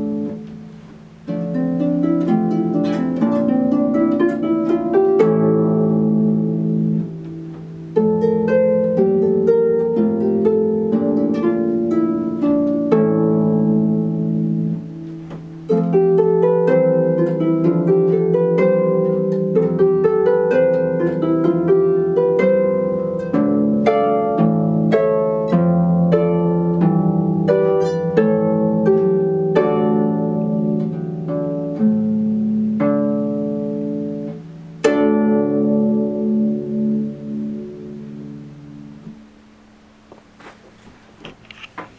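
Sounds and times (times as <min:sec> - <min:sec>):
solo harp playing: 0:00.0 - 0:39.5.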